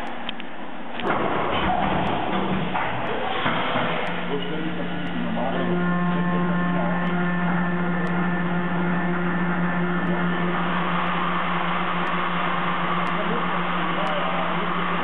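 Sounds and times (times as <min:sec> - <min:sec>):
milling machine hum: 0:00.0 - 0:15.0
high spindle tones: 0:01.0 - 0:15.0.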